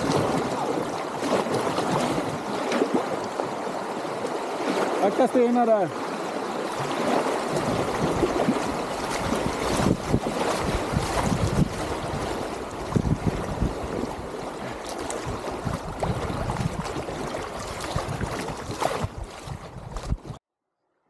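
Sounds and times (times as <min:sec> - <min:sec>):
river water rushing and splashing: 0:00.0 - 0:20.2.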